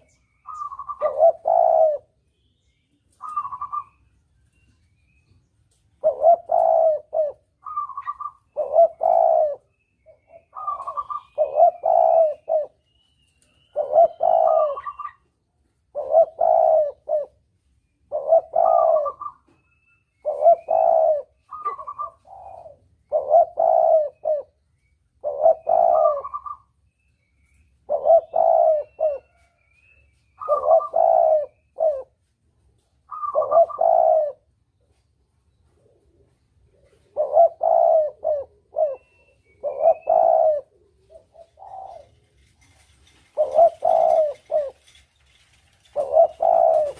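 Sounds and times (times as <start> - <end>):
dove cooing: 0.0 - 2.2, 3.2 - 4.0, 6.0 - 24.6, 25.2 - 26.8, 27.8 - 32.3, 33.0 - 35.0, 35.6 - 46.9
small birds chirping: 0.0 - 32.2, 32.8 - 46.9.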